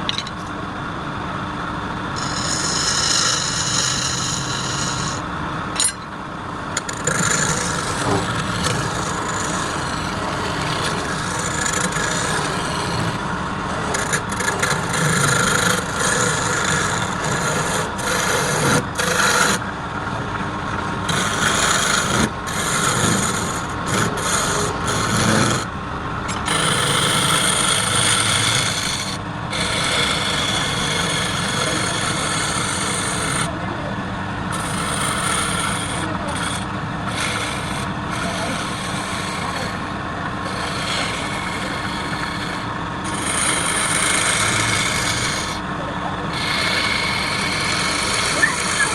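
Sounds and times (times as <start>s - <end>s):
wood lathe running: 2.2s - 6.0s, 6.8s - 33.6s, 34.4s - 48.9s
tool scraping spinning wood: 2.2s - 6.2s, 6.8s - 33.6s, 34.4s - 48.9s.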